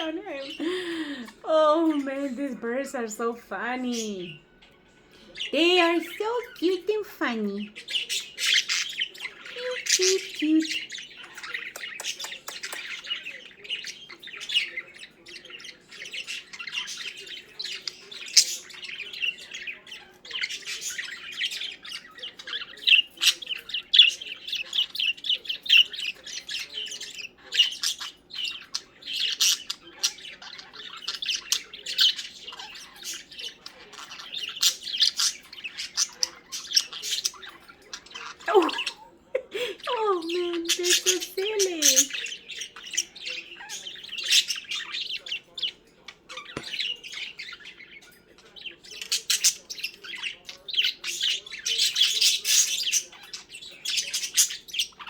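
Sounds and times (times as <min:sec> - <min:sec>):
budgerigars chattering: 0:00.0 - 0:04.4, 0:05.1 - 0:55.0.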